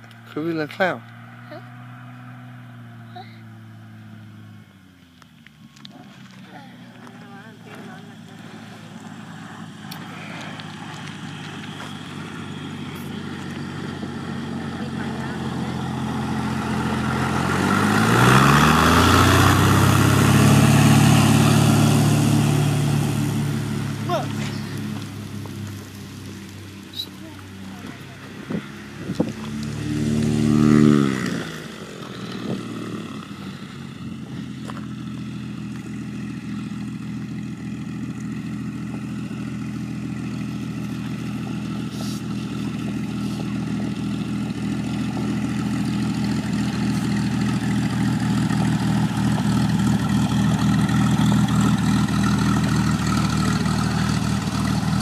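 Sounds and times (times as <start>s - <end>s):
propeller plane engine running: 2.6s - 55.0s.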